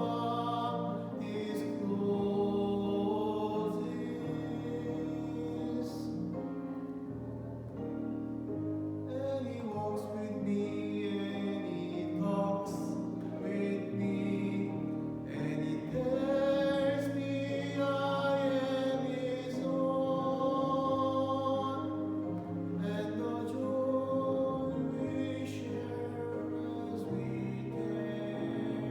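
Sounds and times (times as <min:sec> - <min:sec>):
voices singing worship music: 0:00.0 - 0:07.8, 0:09.0 - 0:28.9.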